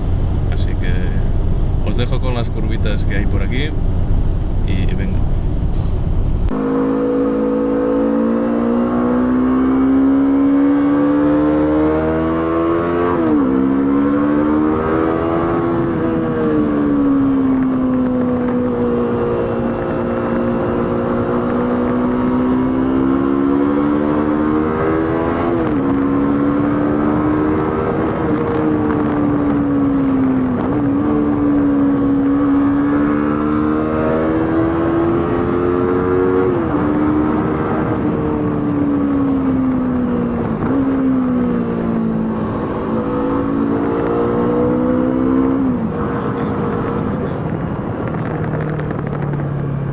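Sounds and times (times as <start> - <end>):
wind and road noise: 0.0 - 49.9
motorcycle engine revving: 6.5 - 49.9.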